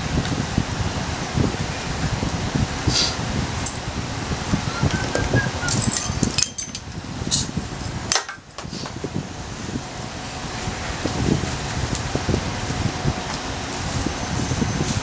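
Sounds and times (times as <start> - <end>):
wind rustling leaves: 0.0 - 15.0.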